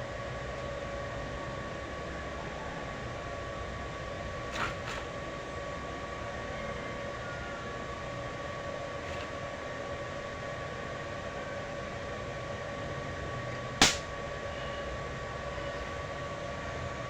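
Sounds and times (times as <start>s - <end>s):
constant hum: 0.0s - 17.0s.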